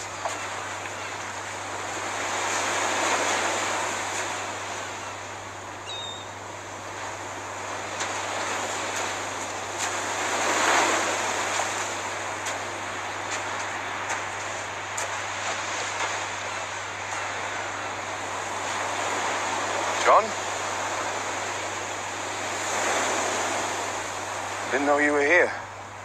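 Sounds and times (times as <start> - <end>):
surf washing on beach: 0.0 - 26.0.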